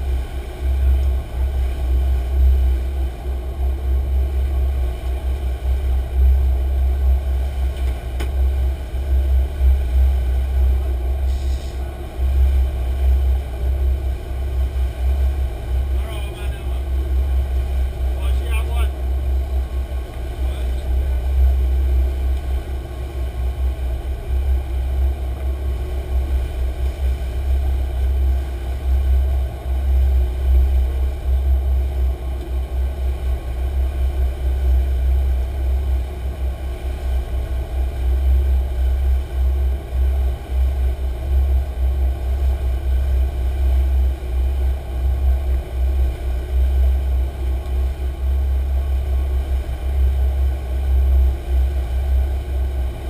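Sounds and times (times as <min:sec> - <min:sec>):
boat engines rumbling: 0:00.0 - 0:53.0.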